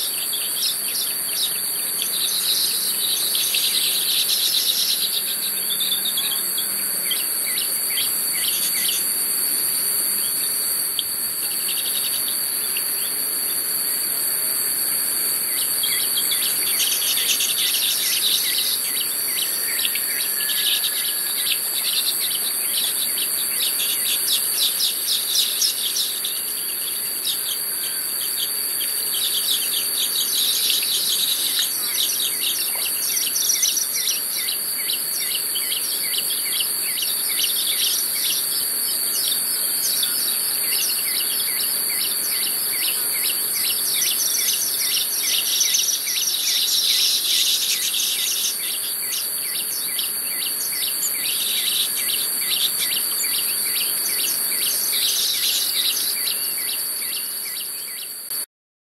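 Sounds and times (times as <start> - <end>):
birds chattering buzzy ticking: 0.0 - 58.3
high-pitched insect drone: 0.0 - 58.4.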